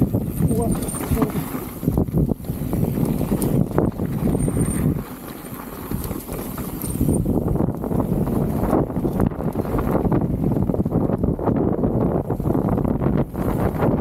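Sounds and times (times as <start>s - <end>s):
mountain bike rattling over trail: 0.0s - 14.0s.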